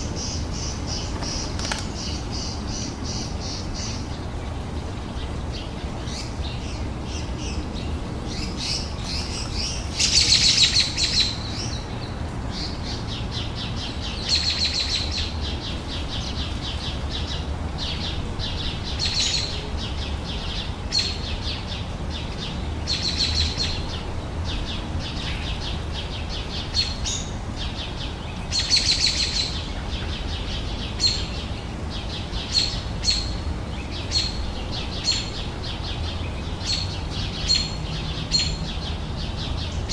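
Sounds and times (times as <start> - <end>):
songbirds chirping trills: 0.0 - 39.9.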